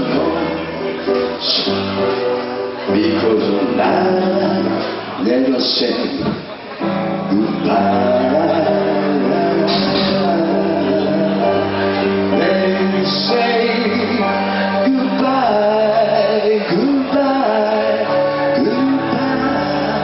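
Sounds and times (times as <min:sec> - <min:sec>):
man singing: 0:00.0 - 0:02.2, 0:02.8 - 0:06.5, 0:07.2 - 0:20.0
live rock band playing: 0:00.0 - 0:20.0.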